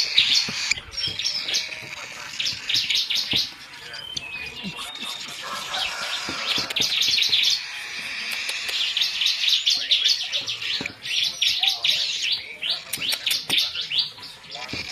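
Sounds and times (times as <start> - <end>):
baby birds chirping: 0.0 - 14.9.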